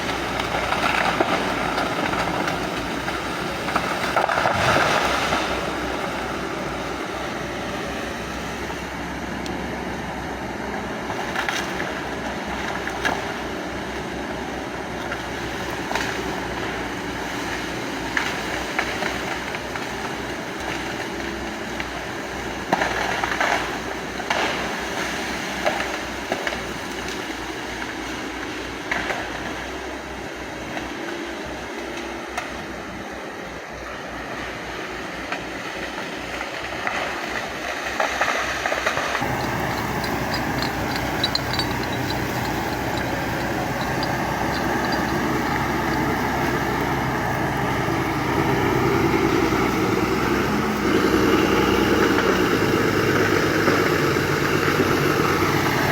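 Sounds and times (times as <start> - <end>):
excavator running: 0.0 - 37.7, 38.8 - 55.9.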